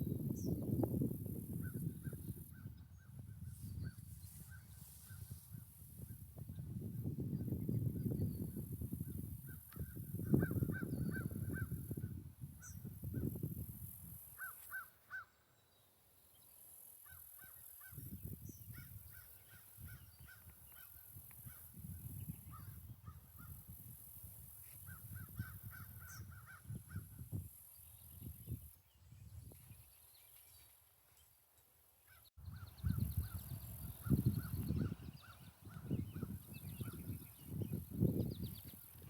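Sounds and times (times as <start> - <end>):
wind rumbling on microphone: 0.0 - 14.5, 17.8 - 30.2, 32.4 - 39.0.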